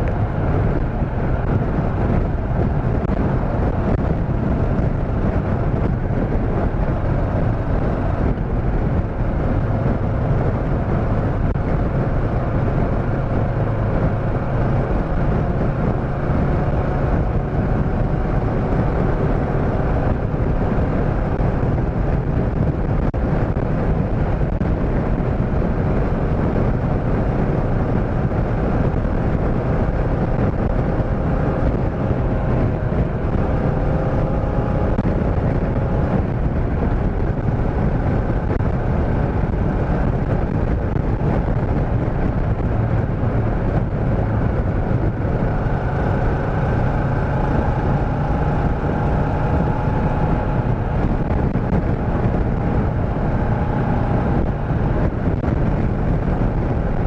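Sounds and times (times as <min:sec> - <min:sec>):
motorcycle engine: 0:00.0 - 0:57.0
wind noise: 0:00.0 - 0:57.0.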